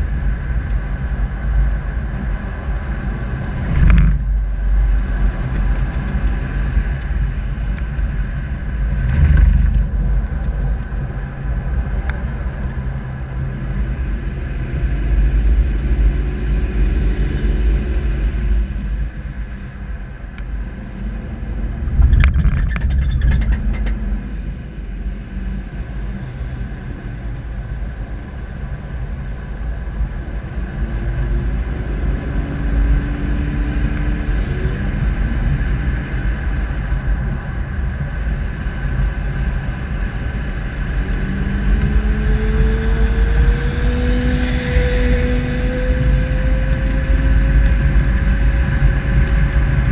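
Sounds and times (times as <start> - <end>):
road and wind rumble: 0.0 - 49.9.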